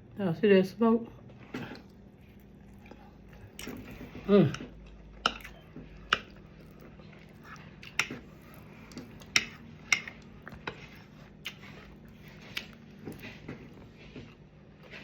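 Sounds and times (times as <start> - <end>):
faint steady hum: 0.0 - 15.0
chewing: 1.2 - 15.0.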